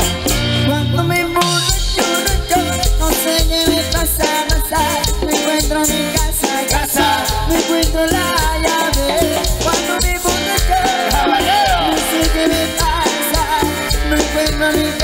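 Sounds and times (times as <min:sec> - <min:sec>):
live band playing latin dance music: 0:00.0 - 0:15.0.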